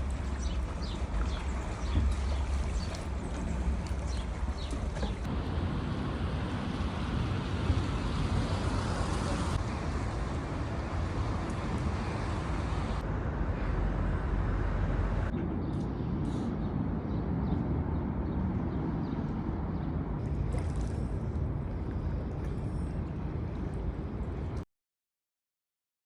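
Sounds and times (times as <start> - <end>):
outdoor background rumble: 0.0 - 24.6.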